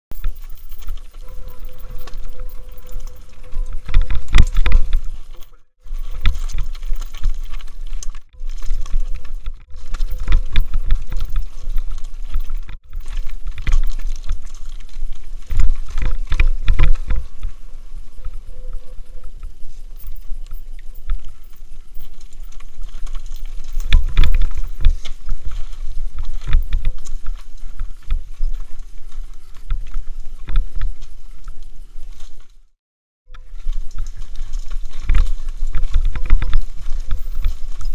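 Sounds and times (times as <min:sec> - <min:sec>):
wheels knocking on stones: 0:00.1 - 0:31.6, 0:33.4 - 0:37.9
bike rattling on rocky trail: 0:00.1 - 0:32.7, 0:33.3 - 0:37.9
wind rumble on microphone: 0:00.2 - 0:32.6, 0:33.4 - 0:37.9.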